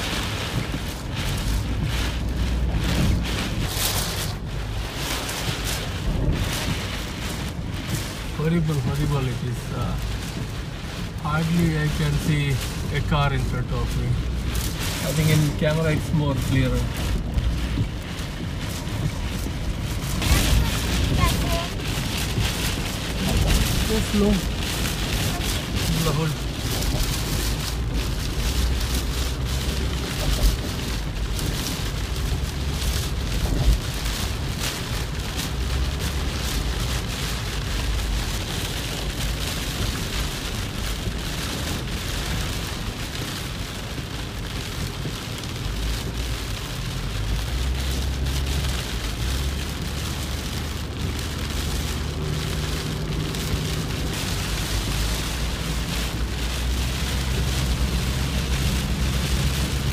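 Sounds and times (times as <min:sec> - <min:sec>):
car rumbling on wet road: 0:00.0 - 0:59.9
heavy rain on car roof: 0:00.0 - 0:59.9.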